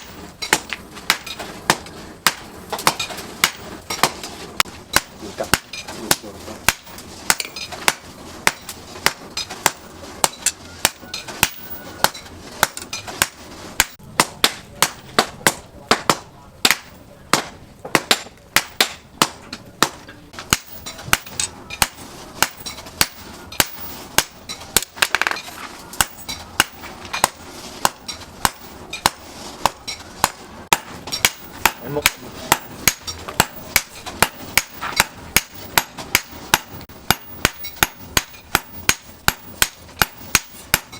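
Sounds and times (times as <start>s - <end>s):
hammer beating steel on anvil: 0.0s - 40.9s.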